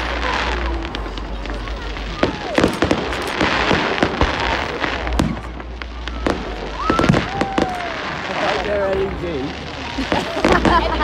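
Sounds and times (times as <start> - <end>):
fireworks bursting with sharp bangs: 0.0 - 11.0
fireworks crackling: 0.0 - 11.0.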